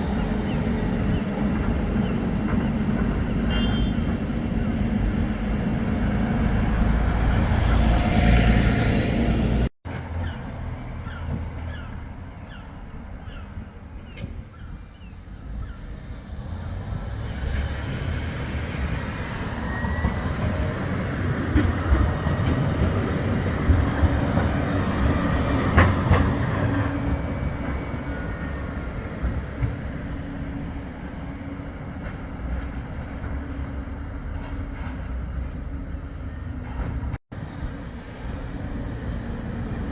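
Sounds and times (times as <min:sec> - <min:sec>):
tram rumbling along track: 0:00.0 - 0:39.9.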